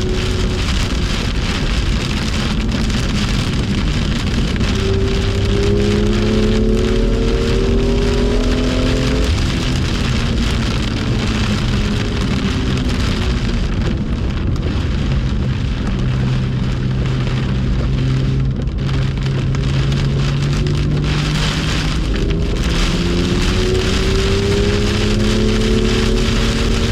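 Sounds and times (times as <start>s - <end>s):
car engine drone: 0.0s - 26.9s
heavy rain hiss: 0.0s - 26.9s
tyre spray on wet track: 0.0s - 26.9s.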